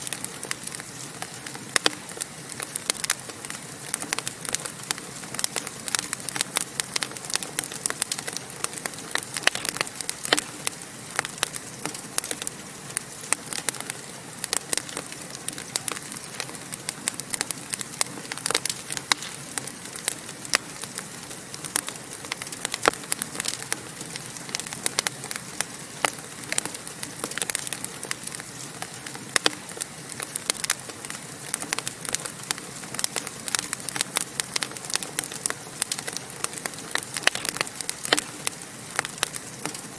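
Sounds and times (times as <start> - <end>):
hiss of burning: 0.0 - 39.9
wood fire crackling and popping: 0.0 - 39.9.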